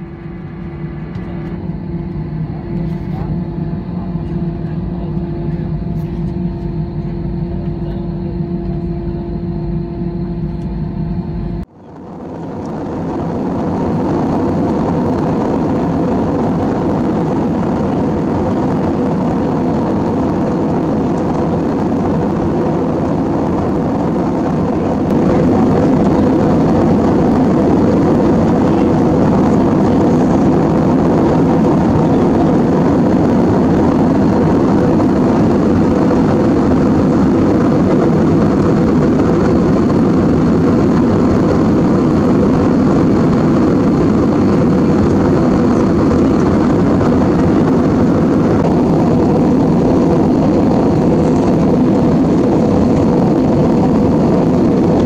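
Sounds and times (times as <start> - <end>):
engine and airflow roar: 0.0 - 55.0
jet engines idling: 0.0 - 55.0.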